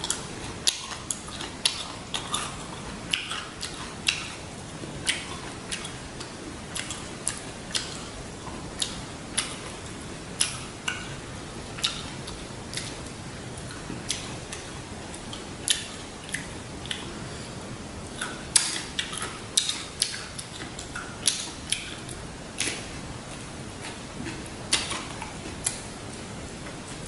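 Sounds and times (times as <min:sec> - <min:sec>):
steady hiss: 0:00.0 - 0:27.0
chewing clicks and smacks: 0:00.1 - 0:04.4, 0:05.0 - 0:08.1, 0:08.8 - 0:11.1, 0:11.8 - 0:17.1, 0:18.1 - 0:26.2.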